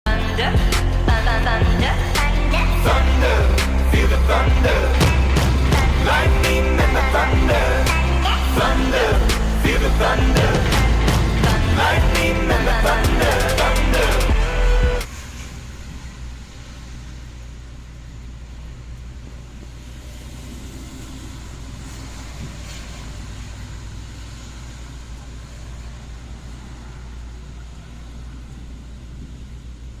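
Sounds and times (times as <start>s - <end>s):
low outdoor rumble: 0.1s - 30.0s.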